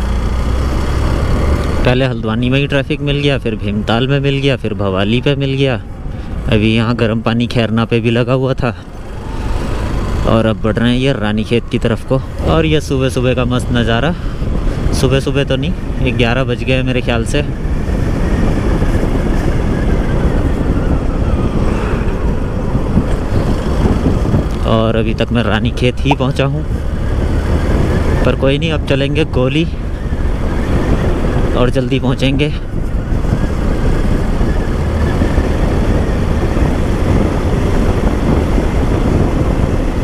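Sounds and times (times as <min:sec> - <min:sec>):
motorcycle engine rumble: 0:00.0 - 0:40.0
wind rushing on microphone: 0:00.0 - 0:40.0.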